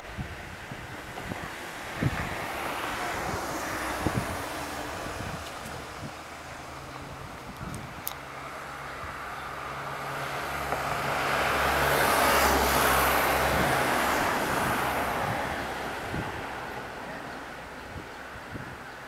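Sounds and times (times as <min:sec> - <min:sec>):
car passing by: 0:00.8 - 0:07.4, 0:08.2 - 0:19.0.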